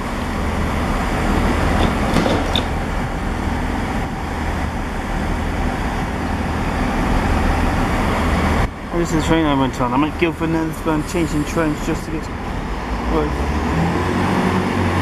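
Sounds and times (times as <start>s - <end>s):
train diesel engines droning: 0.0s - 15.0s.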